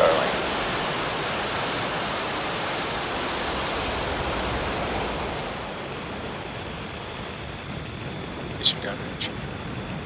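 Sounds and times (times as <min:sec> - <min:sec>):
rocket engines rumbling: 0:00.0 - 0:10.0.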